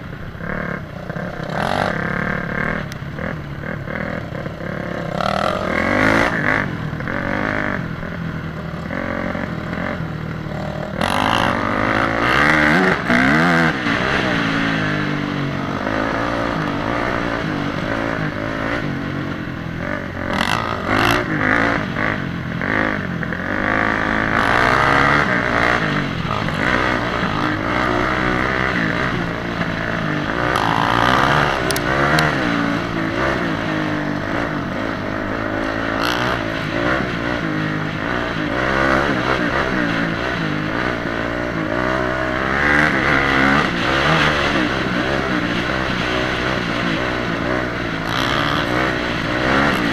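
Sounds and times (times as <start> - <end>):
vehicle engine revving: 0.0 - 49.9.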